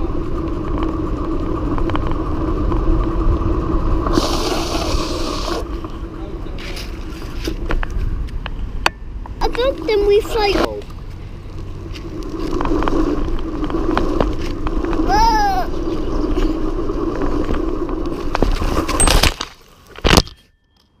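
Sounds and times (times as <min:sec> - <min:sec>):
bike tyres rolling on tarmac: 0:00.0 - 0:20.1
bike rattles and clicks: 0:00.0 - 0:21.0.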